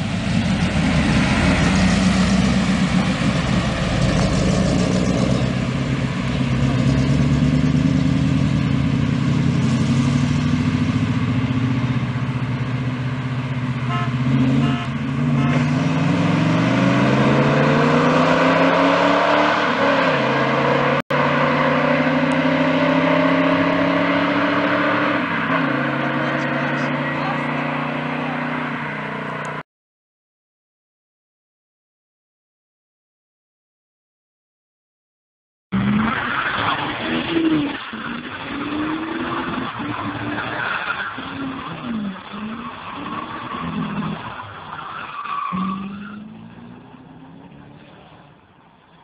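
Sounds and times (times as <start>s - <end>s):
car engines revving and accelerating: 0.0s - 29.6s, 35.8s - 49.0s.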